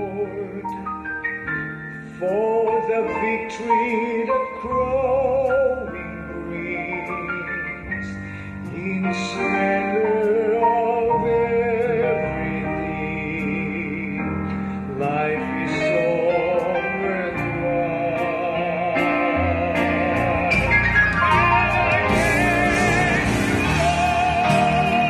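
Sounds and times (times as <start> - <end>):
instrumental accompaniment: 0.0 - 25.0
person singing with vibrato: 2.0 - 25.0.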